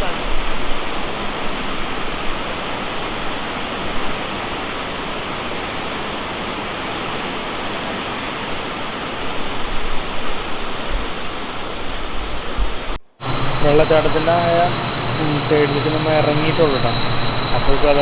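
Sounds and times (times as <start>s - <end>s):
waterfall roaring: 0.0s - 9.7s, 13.2s - 18.0s.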